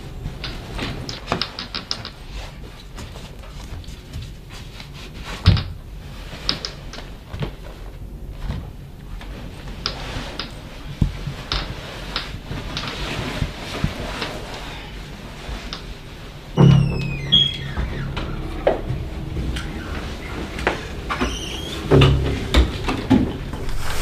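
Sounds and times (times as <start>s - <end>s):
low room noise: 0.0s - 24.0s.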